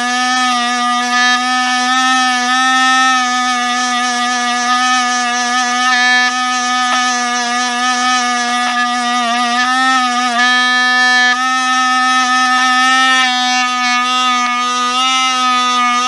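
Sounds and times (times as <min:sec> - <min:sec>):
rotary tool wire brush whine: 0:00.0 - 0:16.0.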